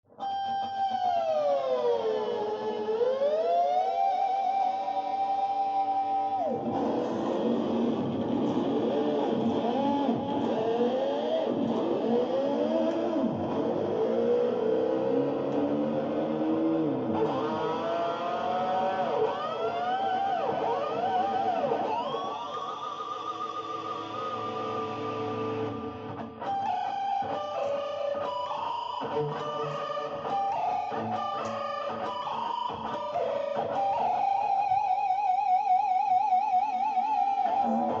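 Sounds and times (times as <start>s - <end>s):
electric guitar notes bending: 0.1s - 35.6s, 37.1s - 38.0s.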